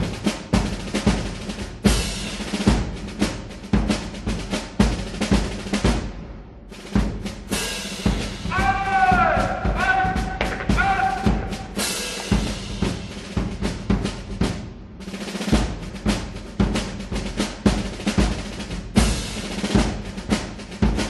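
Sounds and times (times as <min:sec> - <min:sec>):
drum-led background music: 0:00.0 - 0:21.0.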